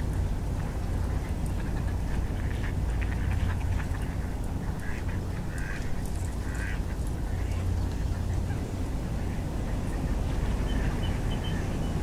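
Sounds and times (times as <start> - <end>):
steady low rumble: 0.0 - 12.0
ducks calling: 0.9 - 12.0.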